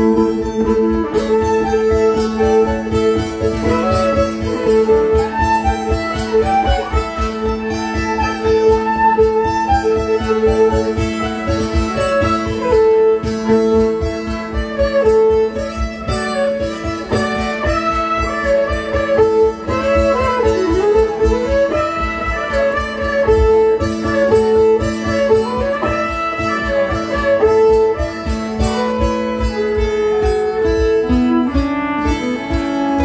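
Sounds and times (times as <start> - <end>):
dulcimer strumming: 0.0 - 33.0
fiddle melody: 0.0 - 33.0.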